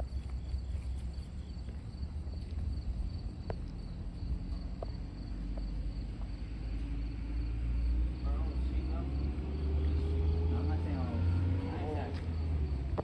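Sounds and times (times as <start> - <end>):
crickets chirping: 0.0 - 13.0
steady low rumble: 0.0 - 13.0.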